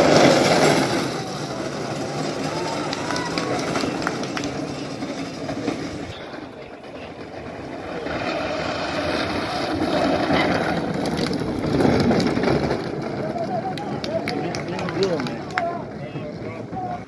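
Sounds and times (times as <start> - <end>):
cart wheels rolling on asphalt: 0.0 - 17.0.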